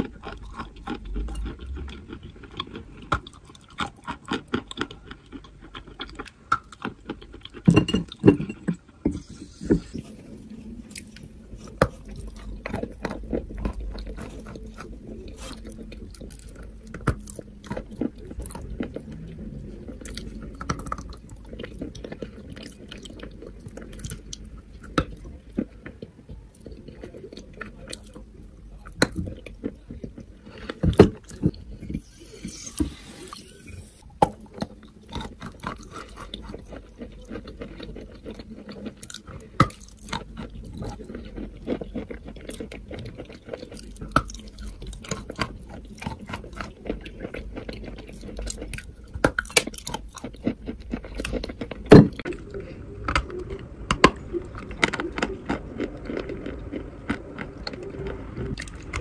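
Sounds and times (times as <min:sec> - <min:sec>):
chalk crunching while chewed: 0:00.0 - 0:07.7, 0:10.8 - 0:33.7, 0:34.3 - 0:59.0.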